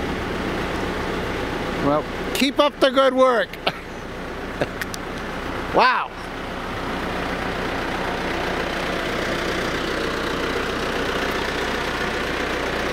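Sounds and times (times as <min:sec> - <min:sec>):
diesel engine droning: 0:00.0 - 0:12.9.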